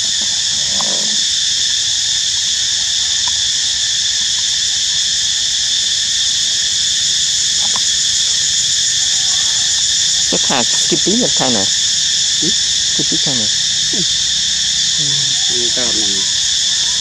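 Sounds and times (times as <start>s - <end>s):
insect chorus droning: 0.0s - 17.0s.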